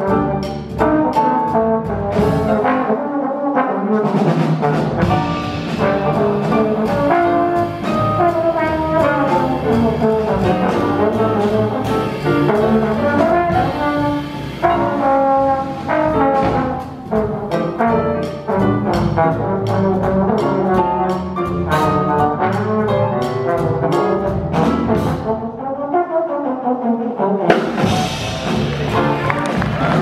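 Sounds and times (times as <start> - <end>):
drum and cymbal hits: 0.0 - 2.8, 4.2 - 25.3, 27.5 - 30.0
jazz band playing: 0.0 - 30.0
jazz trombone solo: 0.0 - 30.0.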